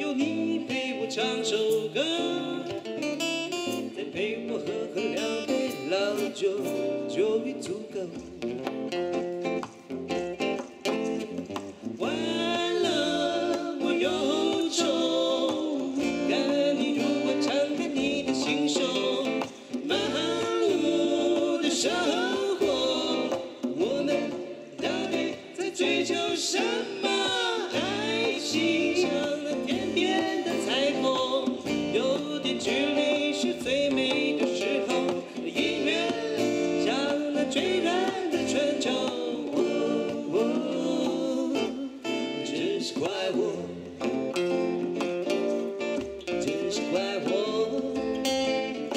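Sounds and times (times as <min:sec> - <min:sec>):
man singing into microphone: 0:00.0 - 0:08.7, 0:11.9 - 0:44.0, 0:46.3 - 0:48.9
acoustic guitar strumming: 0:00.0 - 0:48.9.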